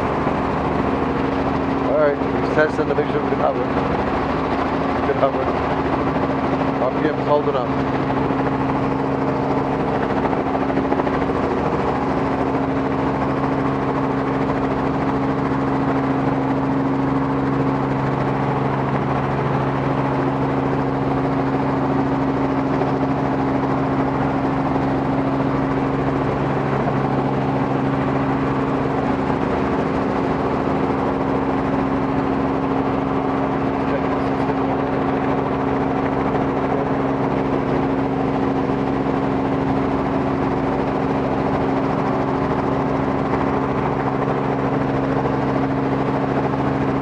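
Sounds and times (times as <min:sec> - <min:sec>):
helicopter engine and rotors: 0:00.0 - 0:47.0.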